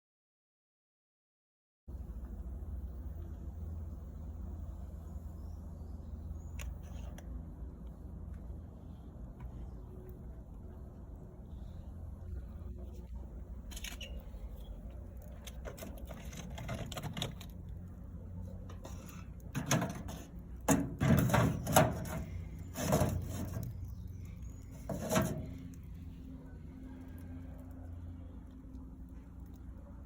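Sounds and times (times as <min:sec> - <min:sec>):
low steady hum: 0:01.9 - 0:30.0.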